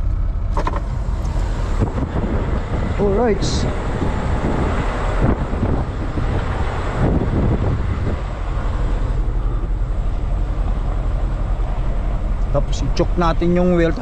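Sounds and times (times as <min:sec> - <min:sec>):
diesel truck engine rumbling: 0:00.0 - 0:14.0
wind noise on microphone: 0:00.5 - 0:13.2.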